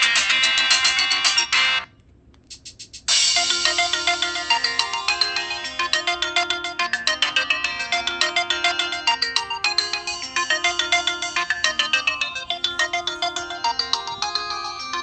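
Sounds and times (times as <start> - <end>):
electronic ringtone melody: 0.0 - 1.9, 3.2 - 15.0.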